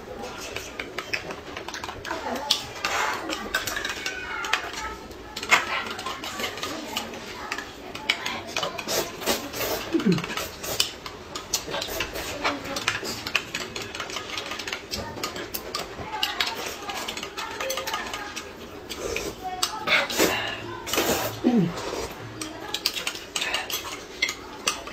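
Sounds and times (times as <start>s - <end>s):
noodles being slurped: 0.2s - 24.9s
chopsticks clicking on ceramic plates: 0.4s - 20.2s, 22.4s - 24.9s.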